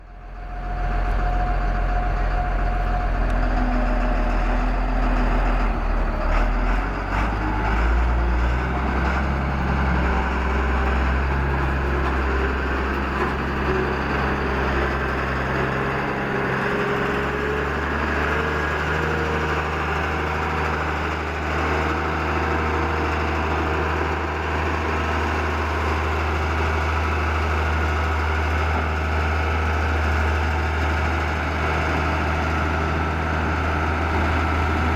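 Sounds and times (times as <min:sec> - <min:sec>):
roller diesel engine running: 0:00.0 - 0:34.9.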